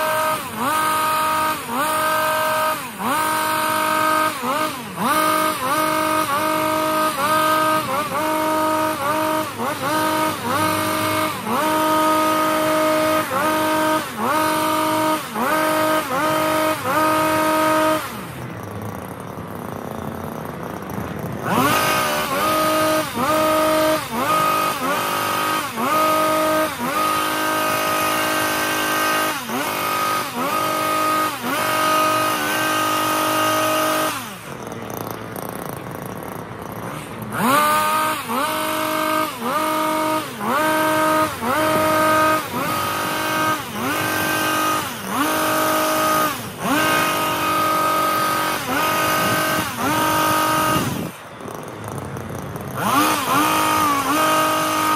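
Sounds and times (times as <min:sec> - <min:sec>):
hedge trimmer revving: 0:00.0 - 0:54.9.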